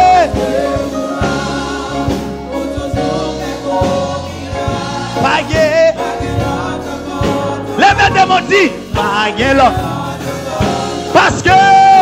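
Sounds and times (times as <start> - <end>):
drum kit: 0.0 - 12.0
electronic keyboard chords: 0.0 - 12.0
man singing lead: 0.0 - 12.0
voices singing: 0.0 - 12.0.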